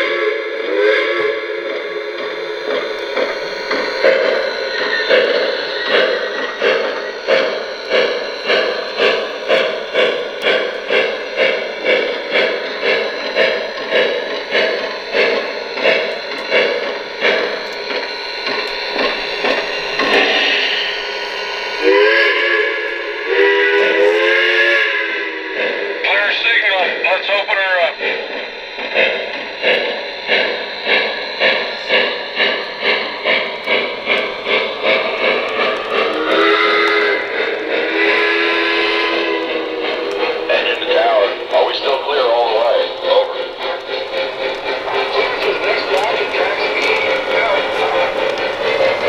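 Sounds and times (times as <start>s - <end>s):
steam chuff through speaker: 0.0s - 49.0s.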